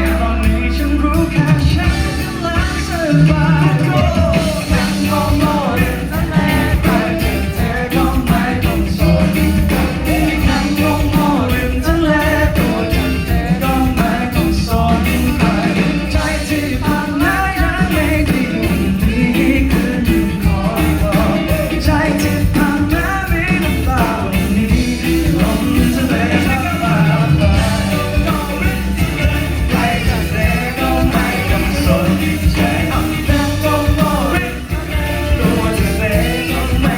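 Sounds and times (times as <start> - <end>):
live rock band playing: 0.0 - 36.9
person singing: 0.0 - 36.9.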